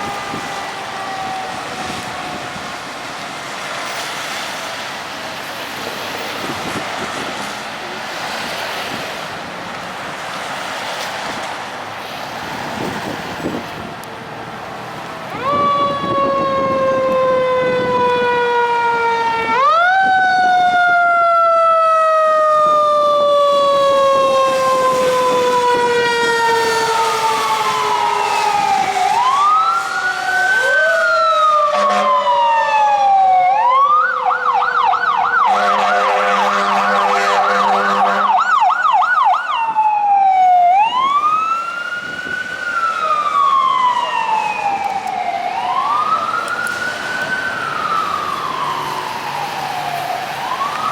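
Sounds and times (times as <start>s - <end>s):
fire engine siren: 0.0s - 50.9s
passing road traffic: 0.0s - 50.9s.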